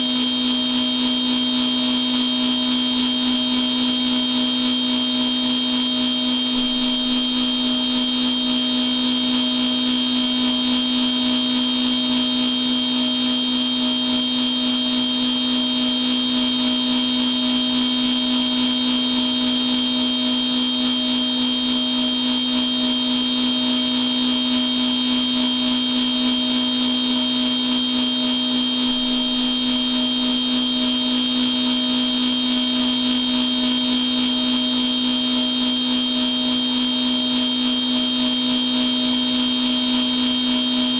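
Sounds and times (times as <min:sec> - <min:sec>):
machine tool whine: 0:00.0 - 0:40.9.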